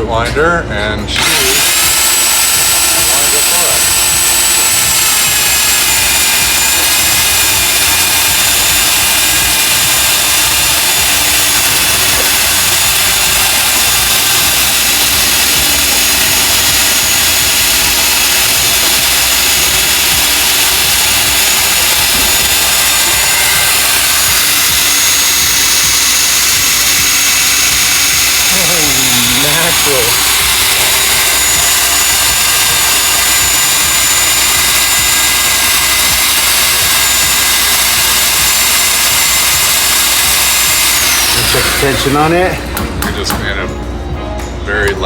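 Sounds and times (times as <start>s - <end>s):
machine whine: 0.0s - 45.0s.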